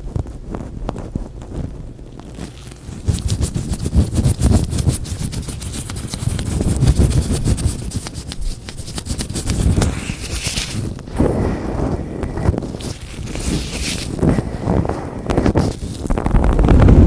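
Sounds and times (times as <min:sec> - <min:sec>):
latex gloves rubbing: 0:00.0 - 0:16.6.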